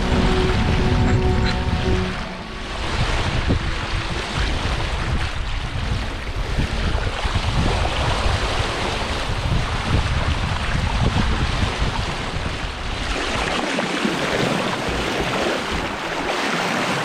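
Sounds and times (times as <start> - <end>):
wind buffeting microphone: 0.0 - 16.9
rushing water and waves: 0.0 - 17.0.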